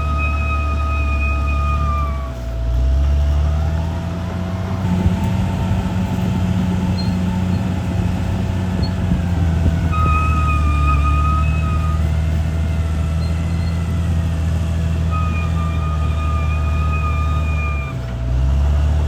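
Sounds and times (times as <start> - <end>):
bulldozer diesel engine revving: 0.0 - 19.0
high steady squealing tone: 0.0 - 19.0.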